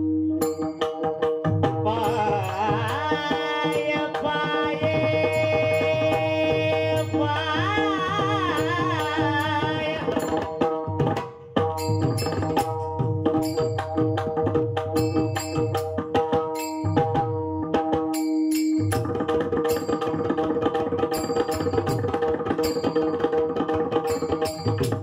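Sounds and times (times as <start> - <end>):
pakhawaj drum strokes: 0.0 - 25.0.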